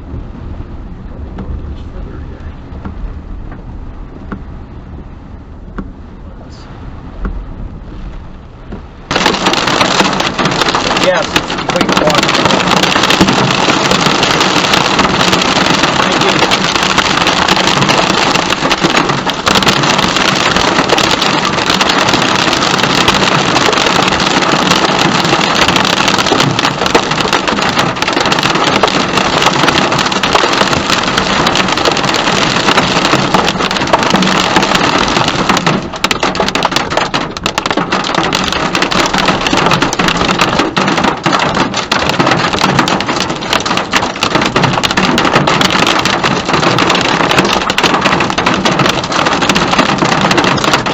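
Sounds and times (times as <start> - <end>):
rain hitting a car: 0.0 - 50.9.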